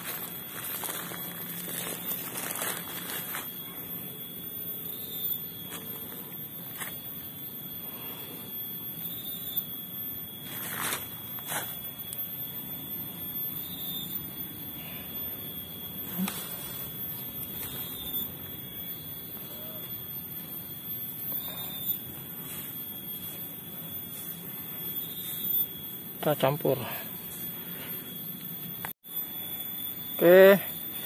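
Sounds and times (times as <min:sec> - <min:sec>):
high-pitched buzz: 0:00.0 - 0:31.0.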